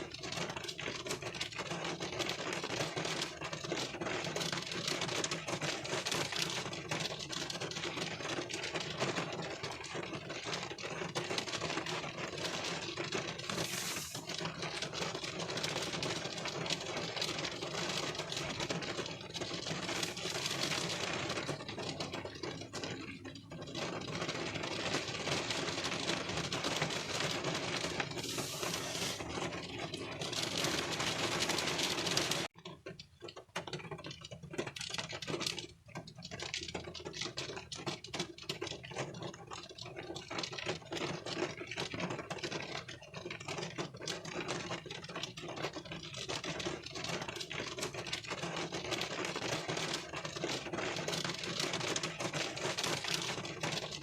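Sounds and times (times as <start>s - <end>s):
rain pattering on windshield: 0.0s - 54.0s.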